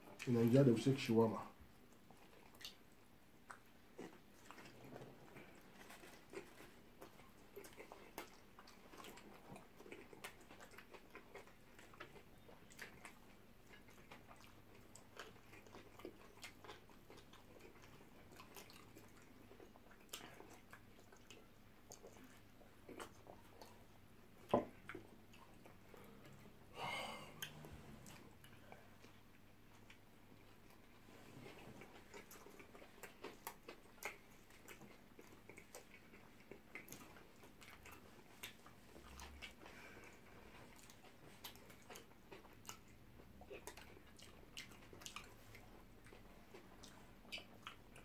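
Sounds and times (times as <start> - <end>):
people chewing: 1.8 - 48.0.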